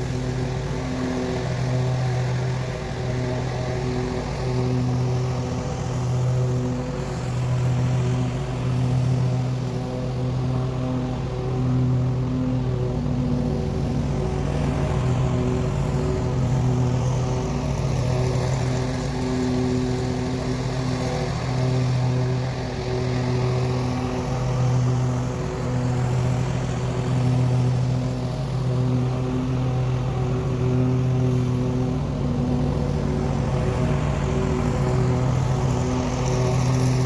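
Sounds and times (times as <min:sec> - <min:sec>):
lawn mower engine running: 0:00.0 - 0:37.0.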